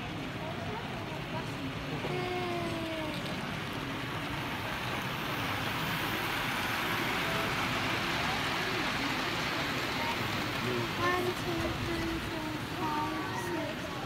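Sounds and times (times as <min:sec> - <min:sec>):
many people talking: 0:00.0 - 0:14.0
model trains running: 0:00.0 - 0:14.0.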